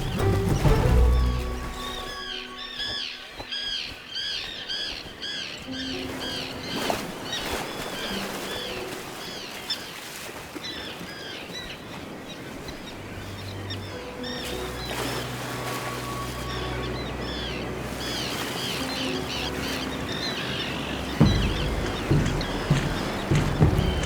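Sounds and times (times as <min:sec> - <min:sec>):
soft background music: 0:00.0 - 0:10.0, 0:12.0 - 0:24.0
terns calling: 0:00.0 - 0:24.0.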